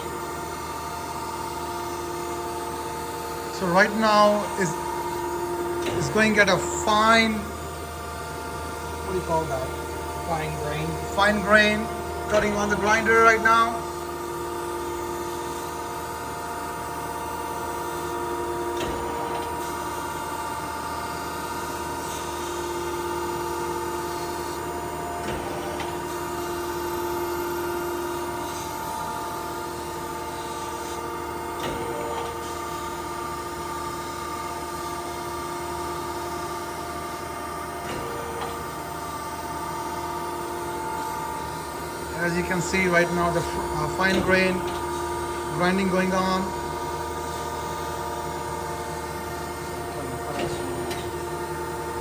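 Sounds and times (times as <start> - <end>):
grinder machine hum: 0.0 - 52.0.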